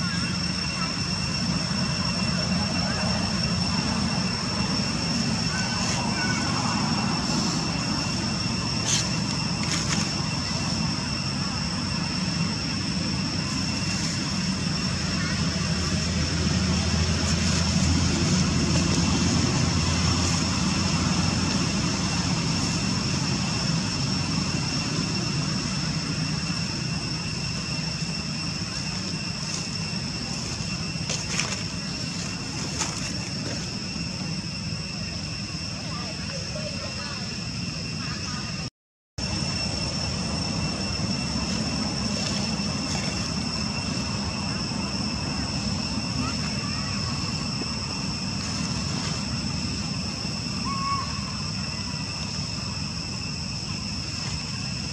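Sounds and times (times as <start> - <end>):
airplane rumbling overhead: 0.0 - 54.9
high-pitched whine: 0.0 - 54.9.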